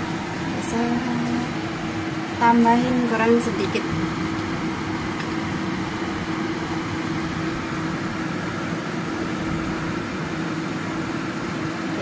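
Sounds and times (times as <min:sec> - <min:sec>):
kitchen fan whirring: 0:00.0 - 0:12.0.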